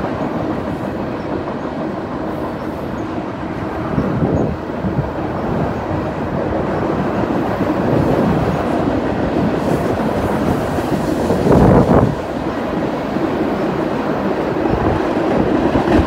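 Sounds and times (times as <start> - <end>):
freight train cars rumbling: 0.0 - 16.0.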